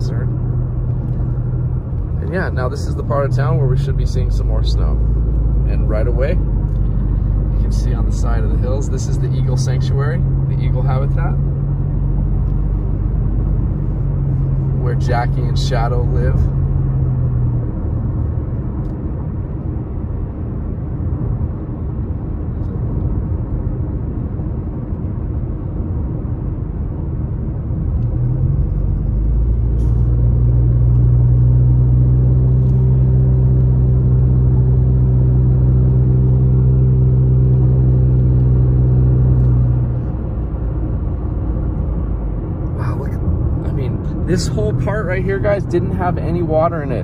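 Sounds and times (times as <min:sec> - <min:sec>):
engine and tyre road rumble: 0:00.0 - 0:47.0
steady low hum: 0:00.0 - 0:47.0.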